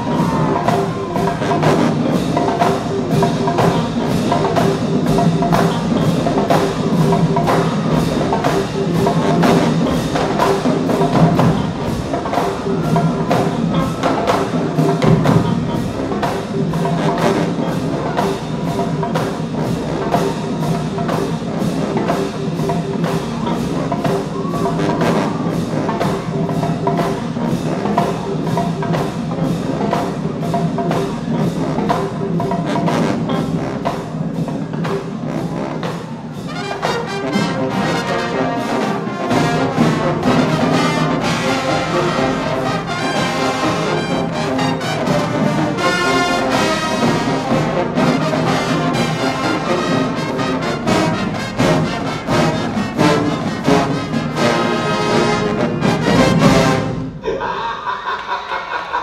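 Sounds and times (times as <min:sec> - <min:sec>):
percussion-driven music: 0:00.0 - 0:59.0.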